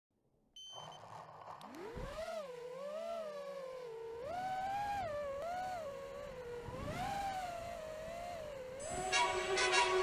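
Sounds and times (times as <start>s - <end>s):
model plane motor whine: 1.0s - 10.0s.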